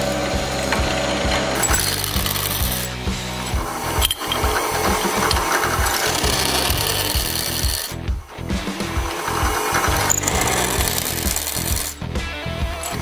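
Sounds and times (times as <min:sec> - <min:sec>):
drill bit grinding metal: 0:00.0 - 0:13.0
drill press motor hum: 0:00.0 - 0:13.0.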